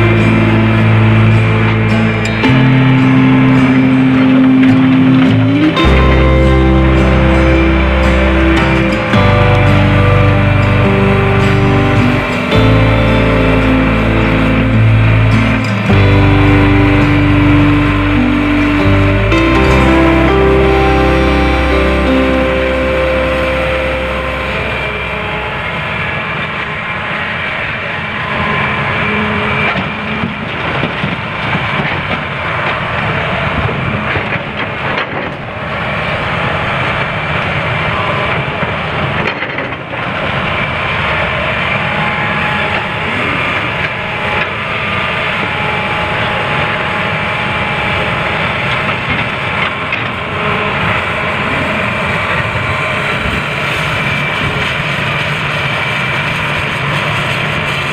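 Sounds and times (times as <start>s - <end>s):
excavator engine whining: 0.0s - 57.9s.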